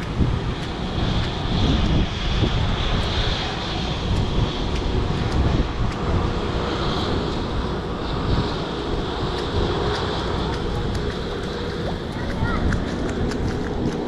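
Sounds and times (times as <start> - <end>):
footsteps splashing through water: 0.0 - 7.8, 8.4 - 14.0
wind buffeting microphone: 0.0 - 14.0.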